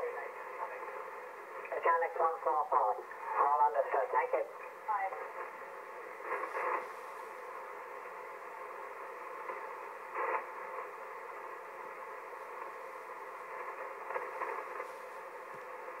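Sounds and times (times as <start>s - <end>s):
radio crackle: 0.0s - 16.0s
radio hiss: 0.0s - 16.0s.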